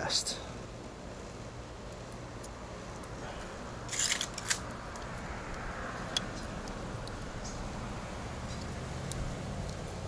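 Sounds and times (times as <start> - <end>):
wires rustling: 1.2 - 10.0.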